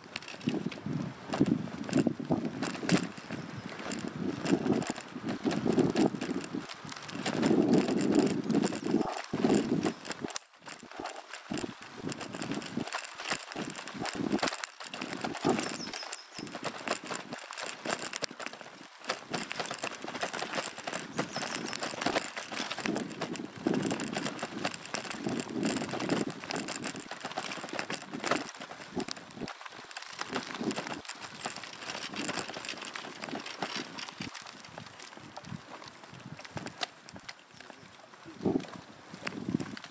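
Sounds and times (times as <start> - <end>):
bicycle rattling on dirt track: 0.0 - 39.9.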